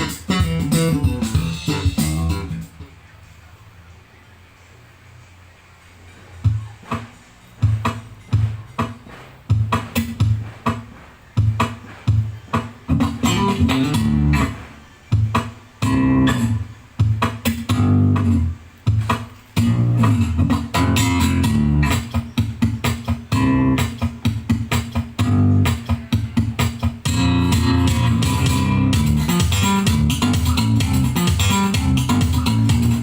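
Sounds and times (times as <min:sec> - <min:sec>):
bass and guitar music: 0:00.0 - 0:03.0, 0:06.4 - 0:33.0.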